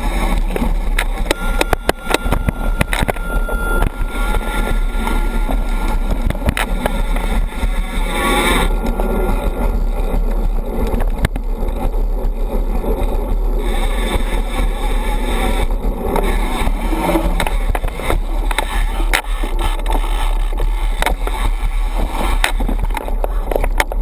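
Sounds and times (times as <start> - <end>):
bike knocking over bumps: 0.0 - 8.0, 8.7 - 15.0, 15.6 - 24.0
bike tyres rumbling on dirt: 0.0 - 24.0.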